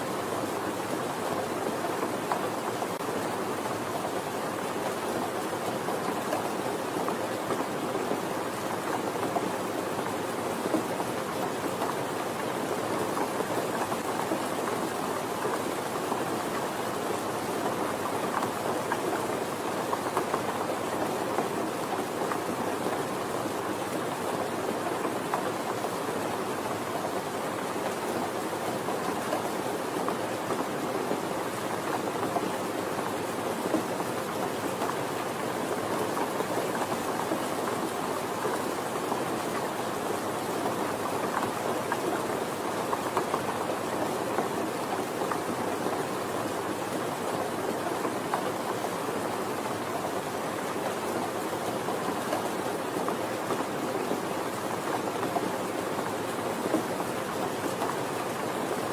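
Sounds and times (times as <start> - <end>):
steady rain patter: 0.0 - 58.9.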